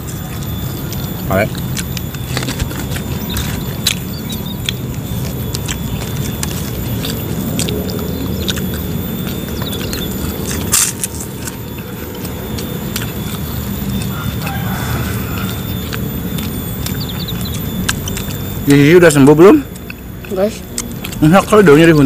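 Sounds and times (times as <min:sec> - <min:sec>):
people chewing and smacking lips: 0:00.0 - 0:22.0
steady low rumble: 0:00.0 - 0:22.0
mouth clicks: 0:00.1 - 0:22.0.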